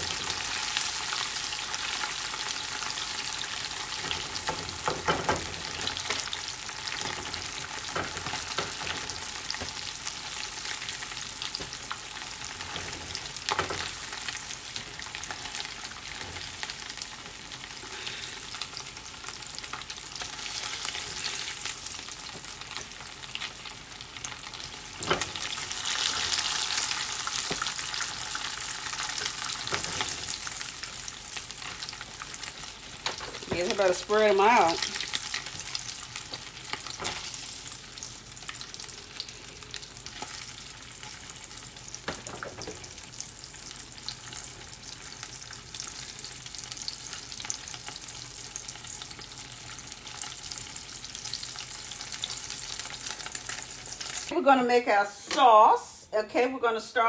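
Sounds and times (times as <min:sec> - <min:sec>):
chicken sizzling in hot oil: 0:00.0 - 0:54.4.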